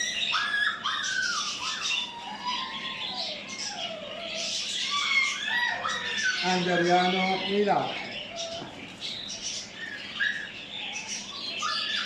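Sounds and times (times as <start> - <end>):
caged birds chirping and squawking: 0.0 - 12.0.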